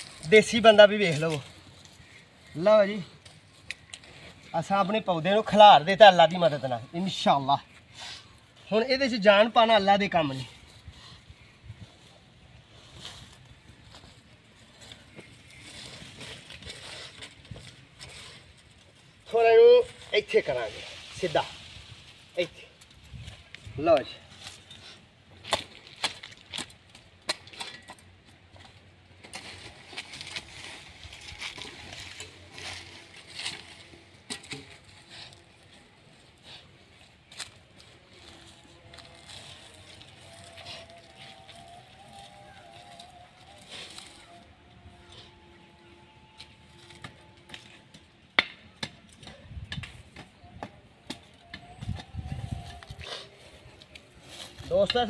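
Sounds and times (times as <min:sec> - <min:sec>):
soil clods and leaves crunching: 0:00.0 - 0:07.4, 0:12.0 - 0:48.0, 0:51.2 - 0:55.0.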